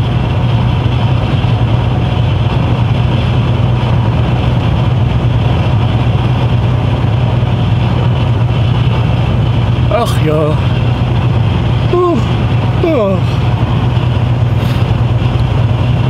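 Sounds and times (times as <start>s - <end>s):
road and tyre noise: 0.0s - 16.0s
truck engine hum: 0.0s - 16.0s.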